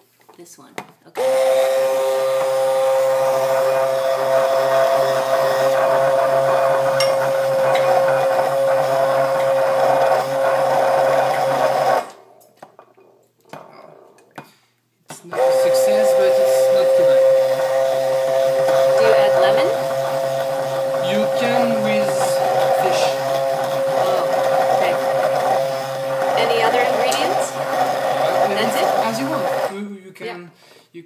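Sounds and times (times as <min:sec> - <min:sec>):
immersion blender running: 0:01.2 - 0:12.2, 0:15.3 - 0:29.8.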